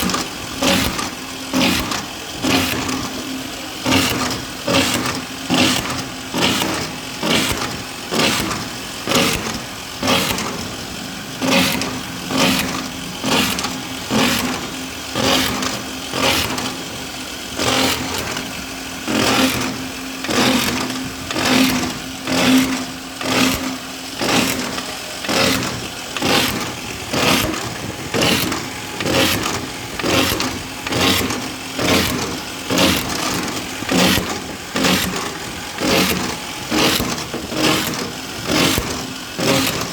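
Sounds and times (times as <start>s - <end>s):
drilling machine engine hum: 0.0s - 39.9s
sharp hydraulic pulses: 0.0s - 39.9s.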